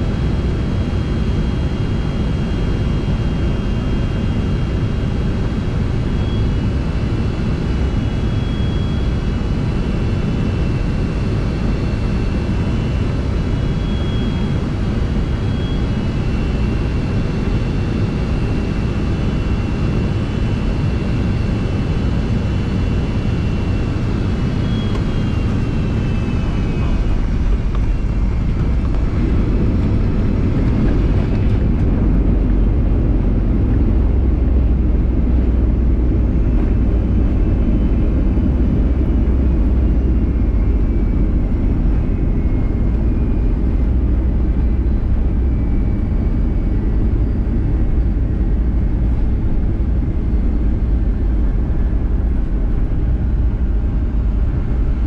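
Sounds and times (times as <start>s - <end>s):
airplane engine and airflow rush: 0.0s - 55.0s
deep rumble of plane landing: 0.0s - 55.0s
faint high whine: 0.7s - 55.0s.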